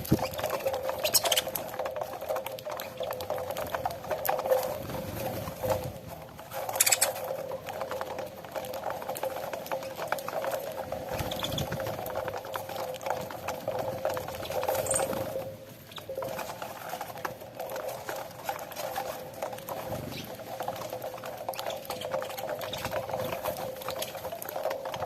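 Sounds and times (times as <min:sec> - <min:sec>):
beaks tapping on grain: 0:00.0 - 0:25.0.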